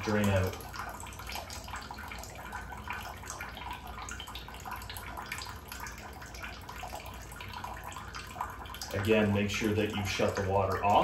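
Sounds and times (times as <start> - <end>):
water trickling into toilet bowl: 0.0 - 11.0.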